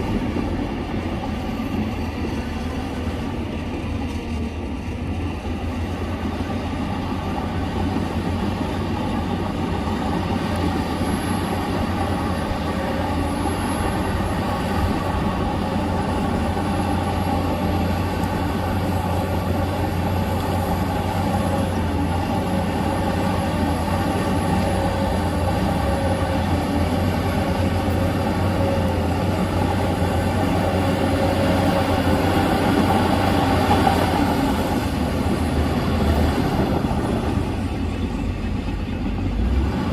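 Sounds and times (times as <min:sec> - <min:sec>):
diesel earthmover engine drone: 0:00.0 - 0:39.9.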